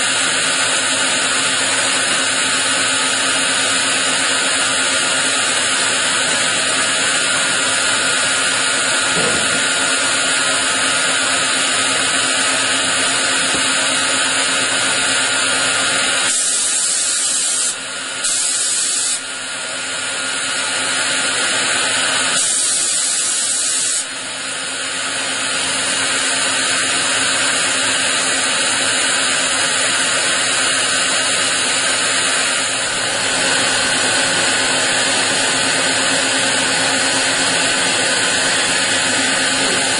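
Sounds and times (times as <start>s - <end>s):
machine spindles whining while cutting: 0.0s - 39.9s.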